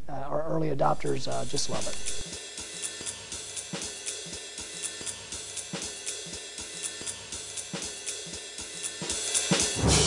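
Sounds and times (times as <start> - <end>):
drum kit beat with hi-hat: 0.8 - 10.0.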